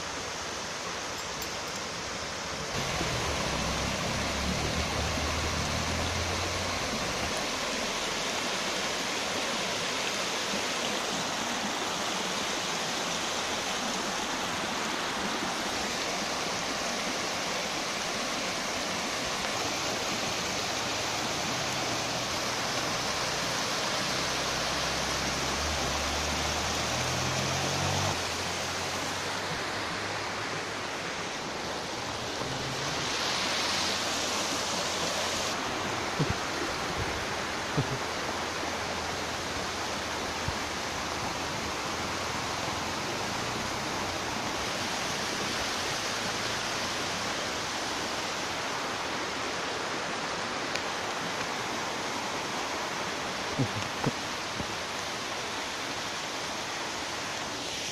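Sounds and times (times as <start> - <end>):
small waterfall splashing: 0.0 - 57.9.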